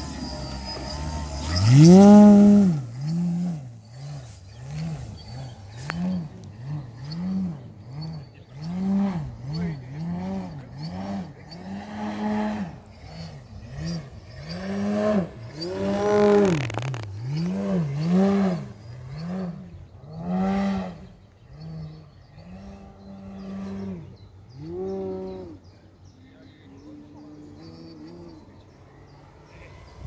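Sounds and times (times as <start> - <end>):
model plane motor droning: 0.0 - 25.7.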